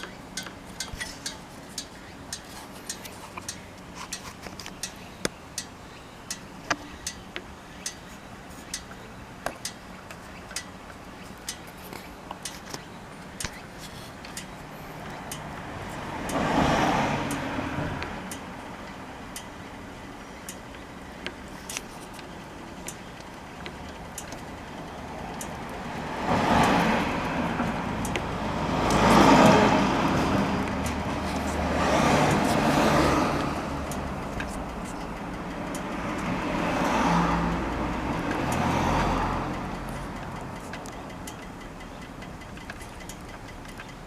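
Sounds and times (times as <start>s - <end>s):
light ticking: 0.0s - 44.0s.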